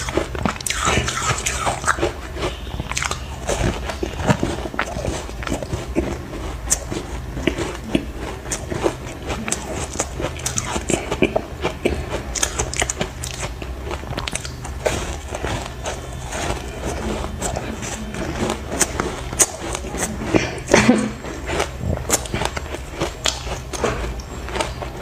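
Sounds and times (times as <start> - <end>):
chewing hard ice chunks: 0.0 - 25.0.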